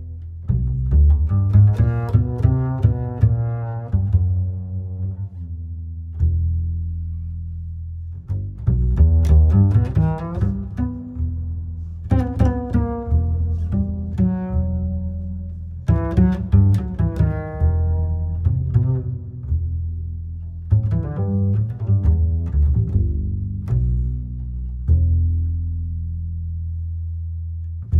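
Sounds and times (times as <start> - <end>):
deep sustained bass: 0.0 - 27.9.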